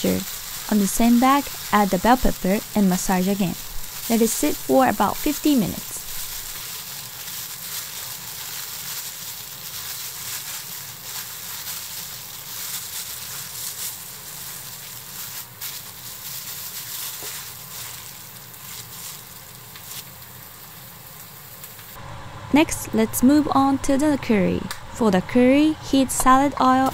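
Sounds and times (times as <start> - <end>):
plastic bag crinkling and rustling: 0.0 - 22.0.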